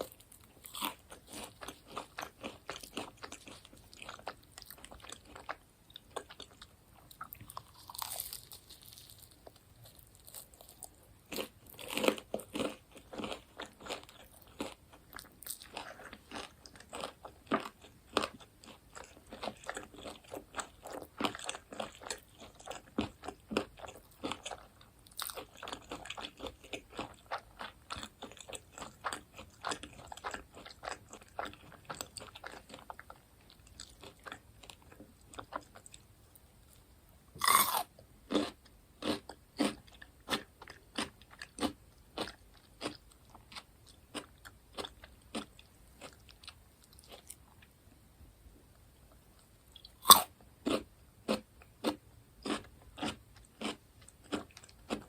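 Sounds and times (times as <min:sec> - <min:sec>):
chewing crunchy food: 0:00.0 - 0:36.8, 0:37.4 - 0:47.7, 0:49.2 - 0:55.0.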